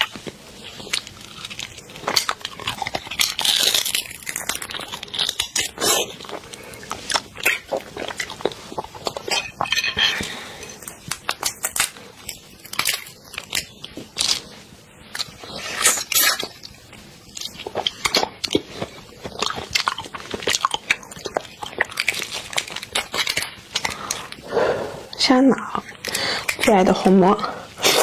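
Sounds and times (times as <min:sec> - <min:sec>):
prawn shells cracking: 0:00.0 - 0:14.5, 0:15.1 - 0:24.4
wet chewing: 0:00.0 - 0:27.2.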